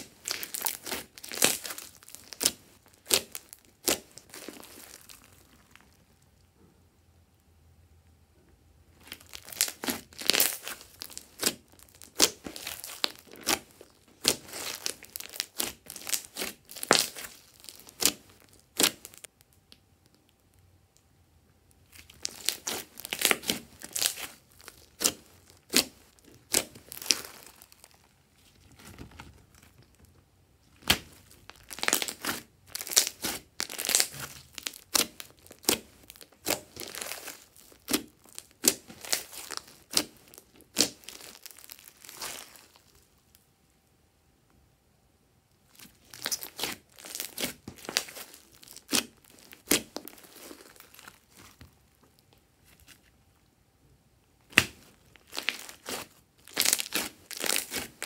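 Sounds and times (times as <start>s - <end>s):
slime squelching and popping: 0.0s - 6.4s, 9.0s - 20.5s, 21.8s - 43.1s, 45.6s - 53.0s, 54.4s - 58.0s.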